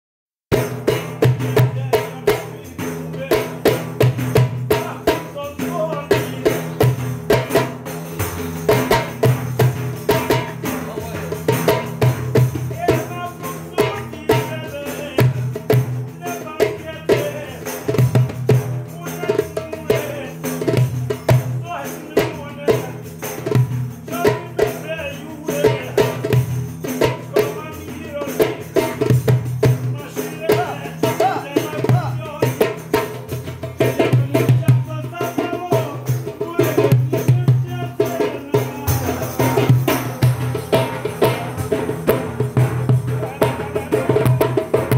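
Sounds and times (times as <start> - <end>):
frame drum beat: 0.5 - 44.9
men singing together: 1.5 - 7.8, 12.7 - 18.1, 18.8 - 44.9.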